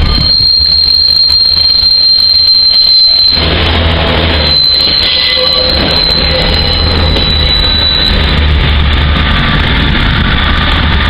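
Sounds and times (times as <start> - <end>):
high-pitched squeal: 0.0 - 11.0
trains running past: 0.0 - 11.0.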